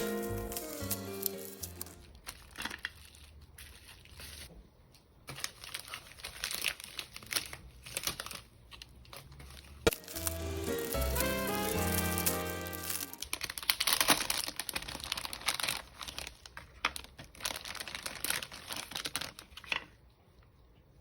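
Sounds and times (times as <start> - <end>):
packaging crinkling and tearing: 0.0 - 4.5, 5.2 - 20.0.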